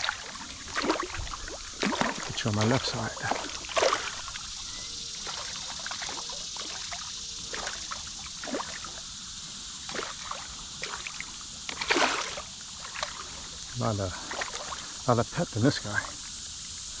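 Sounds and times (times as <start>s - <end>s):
creek water rushing: 0.0s - 9.0s, 9.8s - 16.3s.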